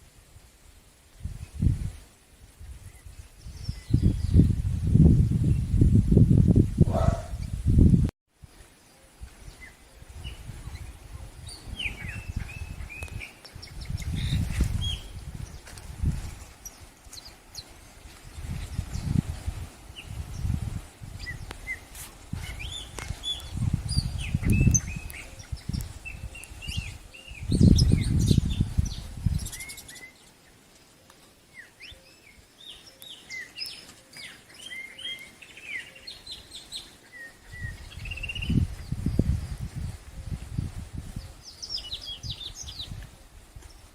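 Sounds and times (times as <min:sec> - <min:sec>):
small birds chirping: 0:08.5 - 0:43.9.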